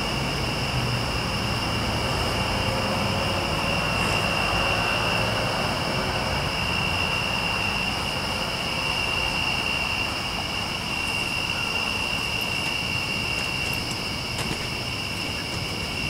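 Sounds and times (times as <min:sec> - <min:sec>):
distant traffic rumble: 0:00.0 - 0:16.0
night insects trilling: 0:00.0 - 0:16.0.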